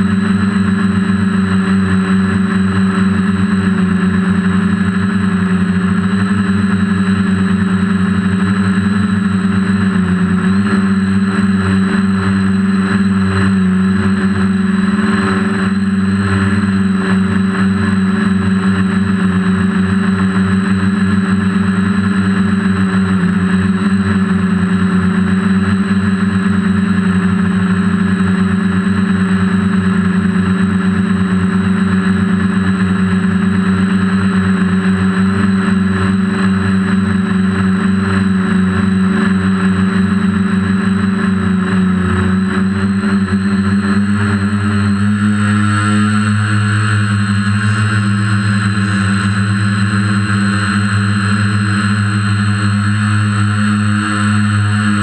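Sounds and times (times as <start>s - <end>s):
drone motors humming: 0.0s - 55.0s
thin high whine: 0.0s - 55.0s.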